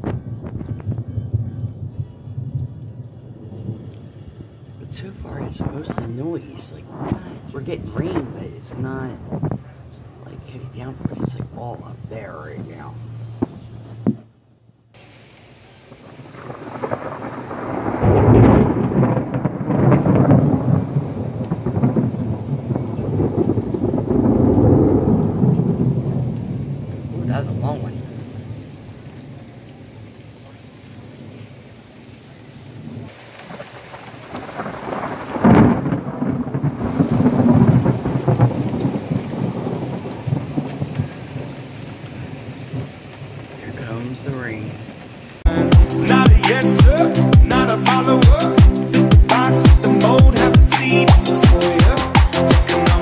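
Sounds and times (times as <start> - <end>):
rolling thunder: 0.0 - 14.3, 15.0 - 31.4, 32.7 - 53.0
light rain: 0.0 - 53.0.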